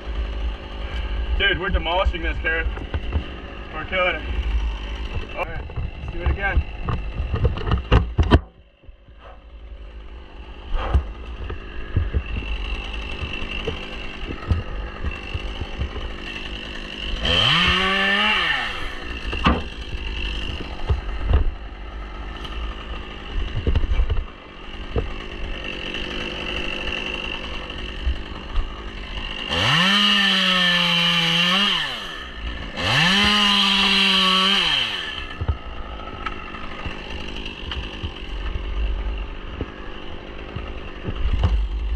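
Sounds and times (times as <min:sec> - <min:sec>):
chainsaw revving: 0:00.0 - 0:08.2, 0:09.6 - 0:41.9
chainsaw idling: 0:00.0 - 0:41.9.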